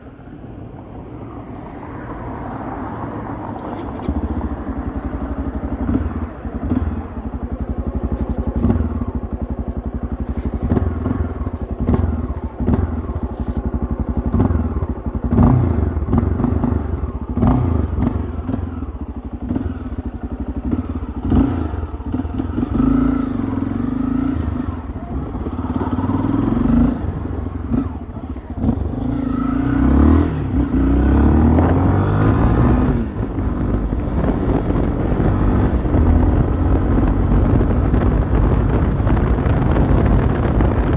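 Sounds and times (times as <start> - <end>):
motorcycle engine revving: 2.6 - 40.9.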